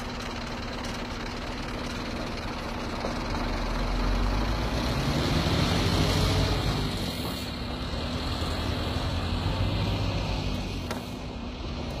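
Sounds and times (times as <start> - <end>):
heavy diesel truck engine humming: 0.0 - 12.0
road noise: 0.0 - 12.0.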